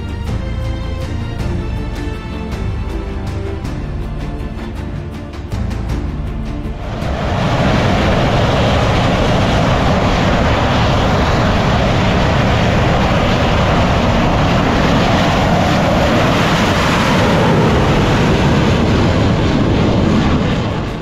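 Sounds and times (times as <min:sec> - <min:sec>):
jet engines at takeoff power: 0:00.0 - 0:21.0.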